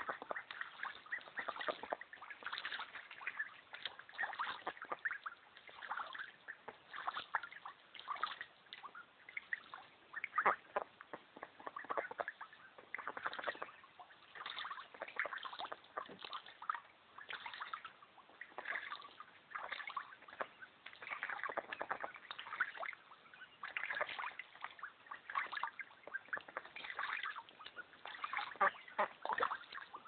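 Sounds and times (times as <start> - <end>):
ducks splashing in water: 0.0 - 30.0.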